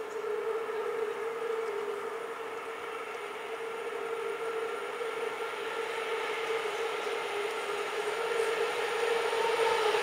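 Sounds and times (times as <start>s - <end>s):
train horn long blast: 0.0s - 10.0s.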